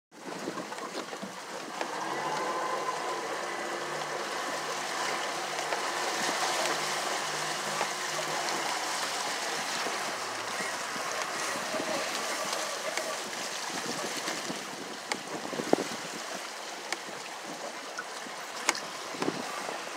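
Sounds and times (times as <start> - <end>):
outboard motor hum: 0.1 - 19.9
water splashing along boat hull: 0.1 - 19.9
wind: 0.1 - 19.9.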